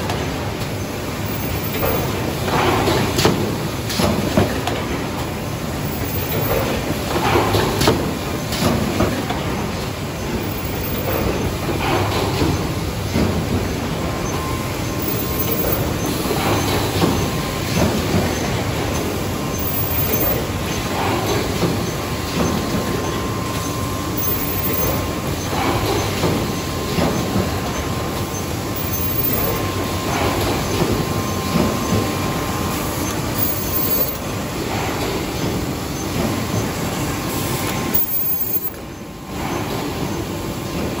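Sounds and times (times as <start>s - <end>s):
box making machine running: 0.0s - 41.0s
mechanical knocks and clacks: 0.0s - 41.0s.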